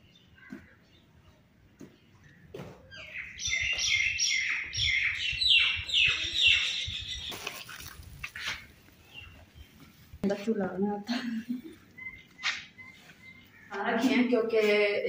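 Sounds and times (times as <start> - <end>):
bird chirping: 0.0 - 10.1, 11.6 - 14.3.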